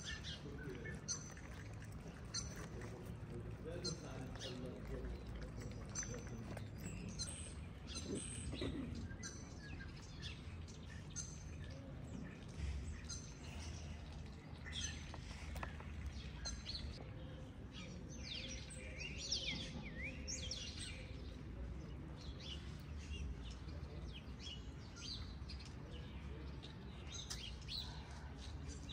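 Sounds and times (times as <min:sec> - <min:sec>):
small birds chirping and twittering: 0:00.0 - 0:28.9.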